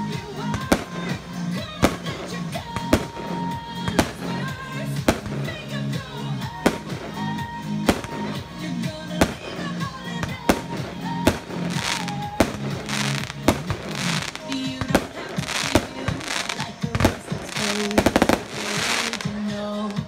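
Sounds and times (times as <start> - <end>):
fireworks bursting with bangs: 0.0 - 20.0
hissing crackle of fireworks: 0.0 - 20.0
music: 0.0 - 20.0.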